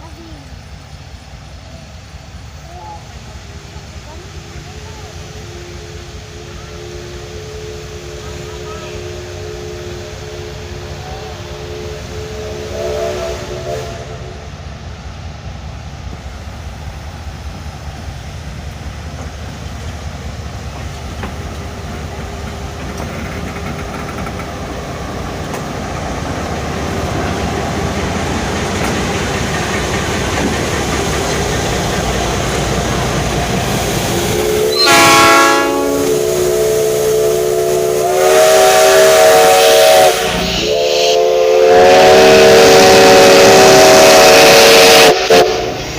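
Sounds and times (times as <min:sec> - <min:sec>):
locomotive rumble and hiss: 0:00.0 - 0:45.9.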